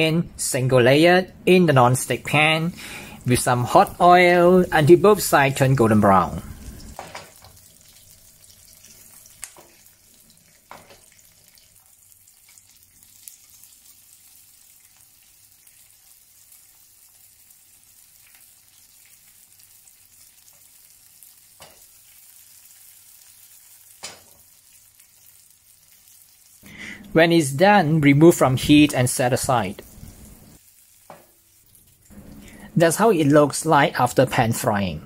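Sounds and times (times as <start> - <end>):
faint sizzle of frying in oil: 2.3 - 26.7, 27.8 - 34.3.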